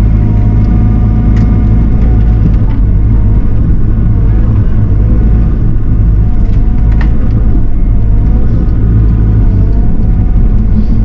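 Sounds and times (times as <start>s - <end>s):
heavy machine diesel engine drone: 0.0s - 11.0s.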